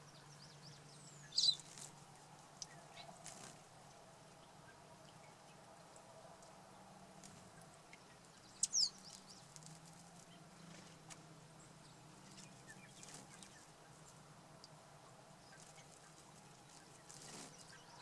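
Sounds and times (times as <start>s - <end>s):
bird chirp: 0.0s - 6.6s, 7.3s - 14.8s, 15.4s - 18.0s.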